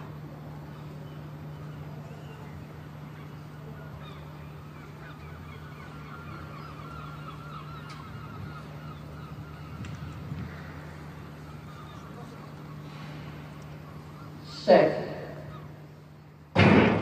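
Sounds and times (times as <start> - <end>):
steady low hum: 0.0 - 17.0
birds honking calls: 0.6 - 16.5.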